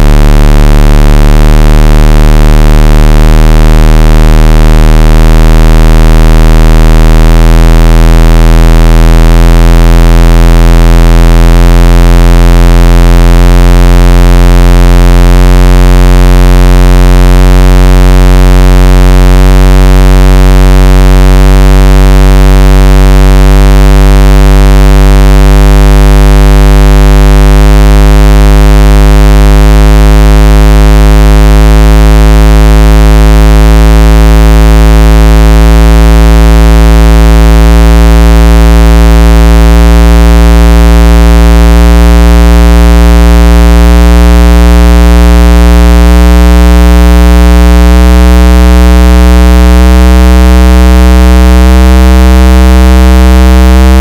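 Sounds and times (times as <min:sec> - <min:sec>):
buzzy low bass test tone: 0:00.0 - 0:54.0.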